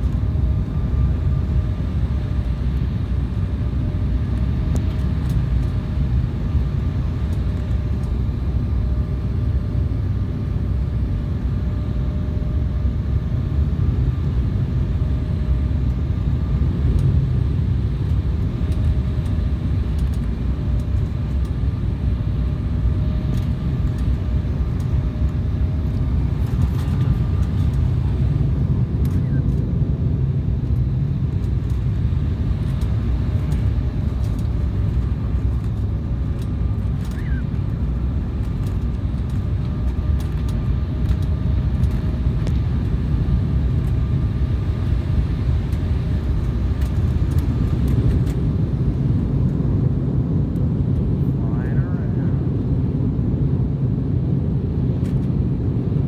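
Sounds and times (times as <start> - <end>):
faint steady hum: 0.0 - 53.8
engine and airflow rumble: 0.0 - 56.0.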